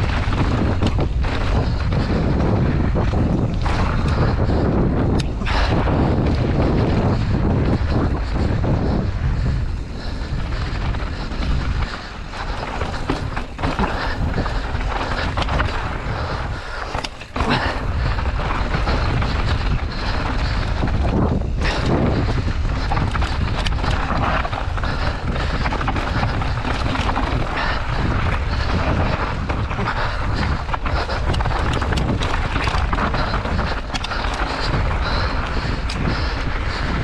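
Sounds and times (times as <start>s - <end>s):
bike knocking and rattling: 0.0s - 37.0s
tyres rumbling over dirt: 0.0s - 37.0s
wind buffeting microphone: 0.0s - 37.0s.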